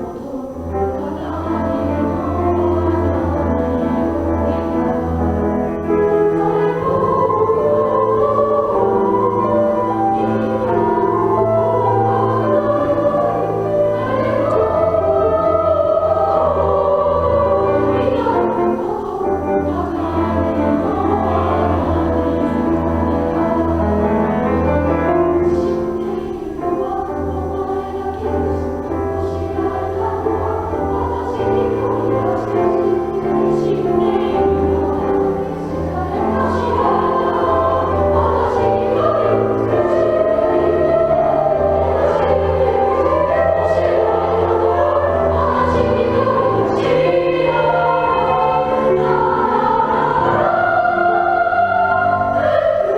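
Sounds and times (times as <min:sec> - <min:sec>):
children's choir singing: 0:00.0 - 0:52.9.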